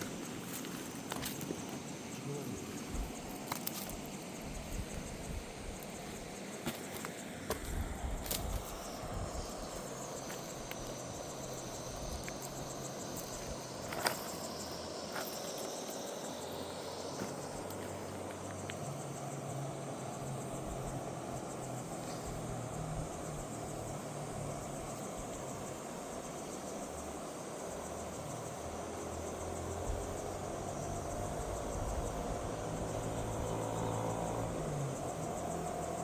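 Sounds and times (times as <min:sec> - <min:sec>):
insects chirping: 0:00.0 - 0:36.0.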